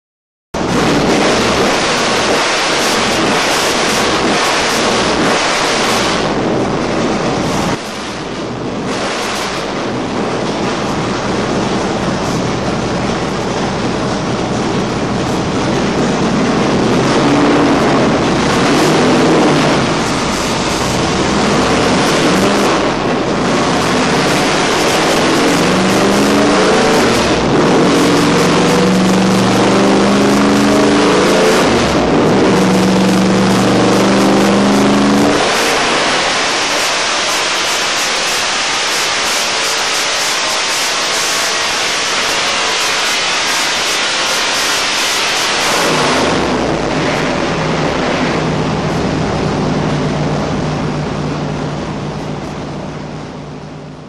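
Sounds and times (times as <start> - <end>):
race car engine revving: 0.6 - 54.0.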